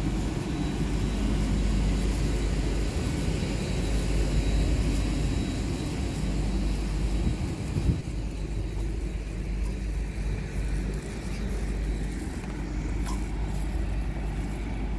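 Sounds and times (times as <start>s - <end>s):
train equipment low rumble: 0.0s - 14.9s.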